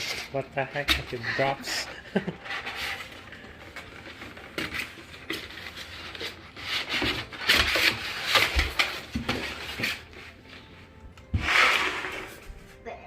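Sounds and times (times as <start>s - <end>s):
cardboard rustling and scraping: 0.0s - 12.8s.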